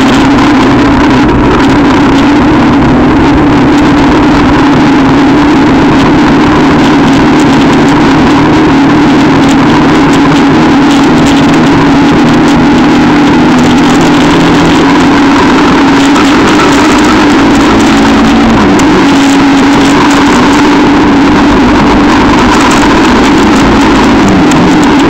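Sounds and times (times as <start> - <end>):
constant rush of noise: 0.0 - 25.0
quad bike engine running: 0.0 - 25.0.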